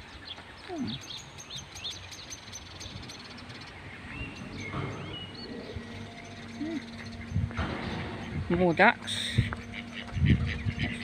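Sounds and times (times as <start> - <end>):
birds chirping: 0.0 - 11.0
low outdoor background noise: 0.0 - 11.0.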